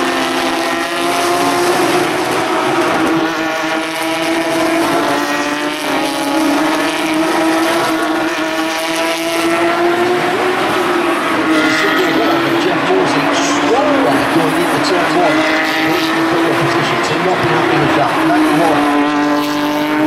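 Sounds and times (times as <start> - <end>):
race car engines revving past: 0.0 - 20.0.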